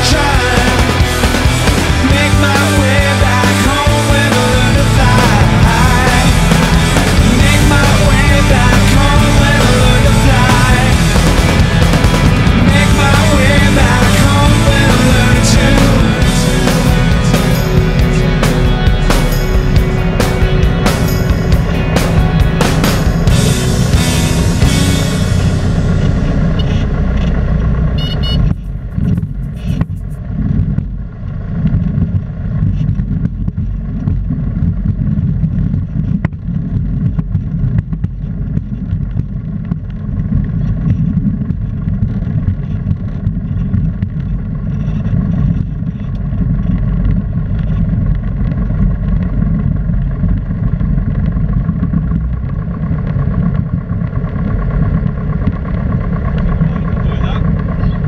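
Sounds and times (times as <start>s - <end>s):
aircraft engine and propeller drone: 0.0s - 58.0s
airflow noise: 0.0s - 58.0s.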